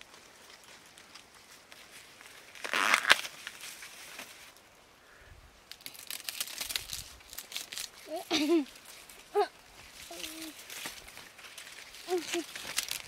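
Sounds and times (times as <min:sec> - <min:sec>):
dry maize leaves rustling: 0:00.0 - 0:13.0.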